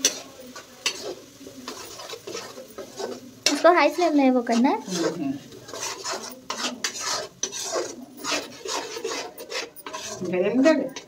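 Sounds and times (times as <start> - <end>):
metal spatula scraping pan: 0.0 - 11.0.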